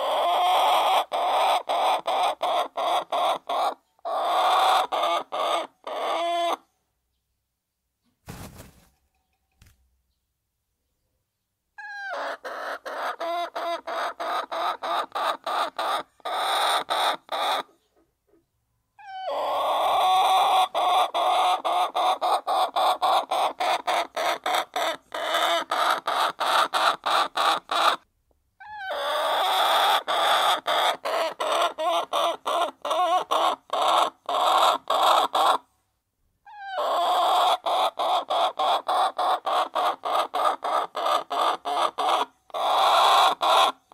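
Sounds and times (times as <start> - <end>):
hens clucking: 0.0 - 6.6, 11.8 - 28.0, 28.8 - 35.6, 36.6 - 43.9.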